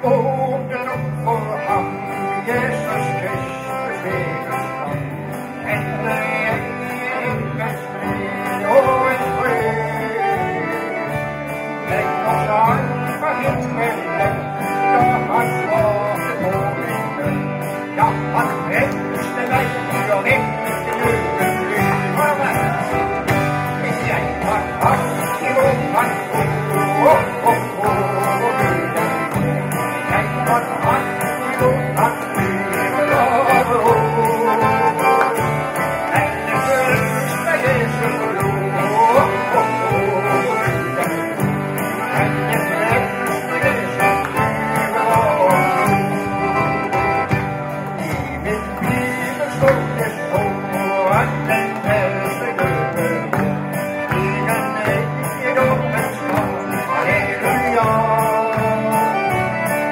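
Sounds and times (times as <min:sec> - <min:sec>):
live country band playing: 0:00.0 - 0:59.9.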